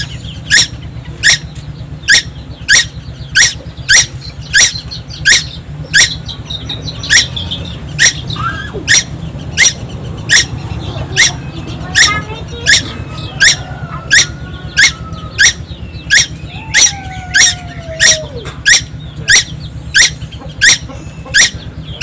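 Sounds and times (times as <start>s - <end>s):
soft bird twittering: 0.0s - 22.0s.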